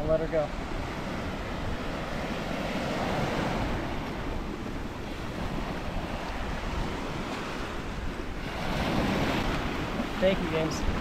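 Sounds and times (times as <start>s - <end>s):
waves breaking on sandy shore: 0.0s - 11.0s.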